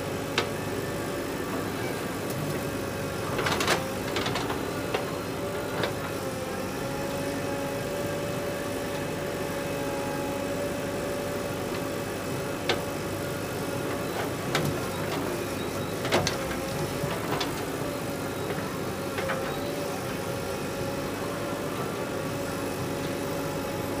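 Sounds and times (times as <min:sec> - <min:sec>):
diesel engines with whine: 0:00.0 - 0:24.0.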